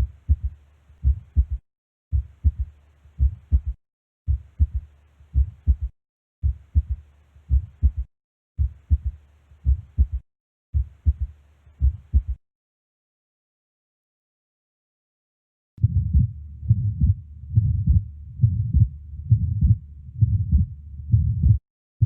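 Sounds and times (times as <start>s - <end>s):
heartbeat through stethoscope: 0.0s - 12.4s, 15.8s - 21.6s.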